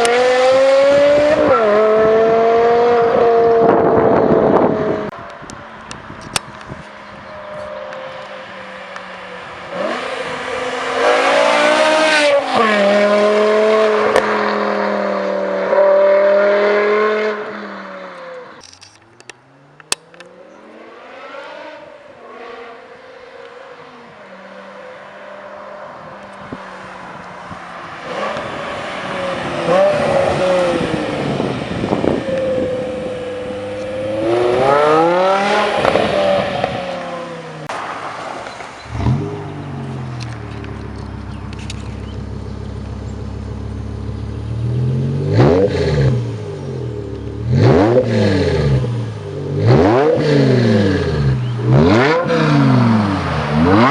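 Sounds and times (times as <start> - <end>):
car engine accelerating and shifting: 0.0 - 53.9.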